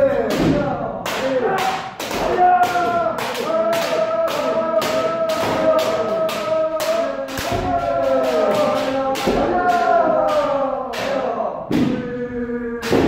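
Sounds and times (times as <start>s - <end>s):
people shouting: 0.0s - 13.0s.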